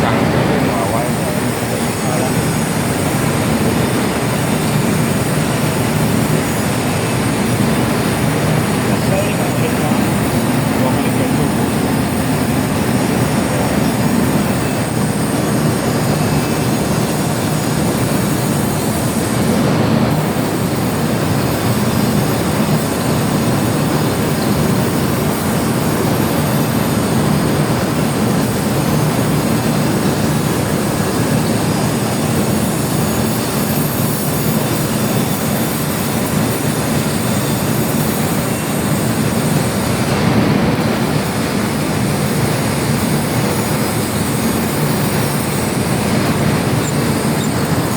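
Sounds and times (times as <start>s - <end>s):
metal lathe running: 0.0s - 47.9s.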